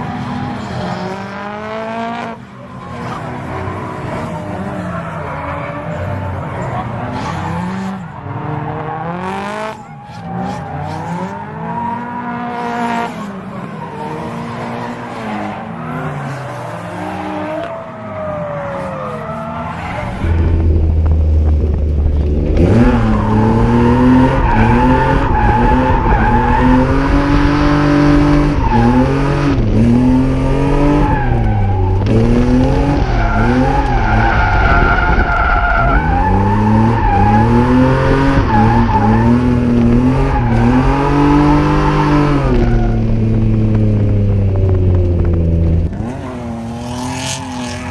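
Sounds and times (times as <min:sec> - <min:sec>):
car engines revving: 0:00.0 - 0:47.9
tyres skidding and squealing: 0:00.0 - 0:47.9.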